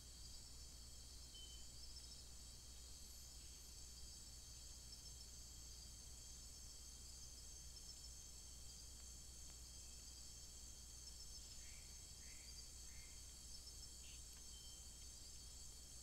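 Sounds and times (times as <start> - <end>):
low steady hum: 0.0 - 16.0
night insects chorus: 0.0 - 16.0.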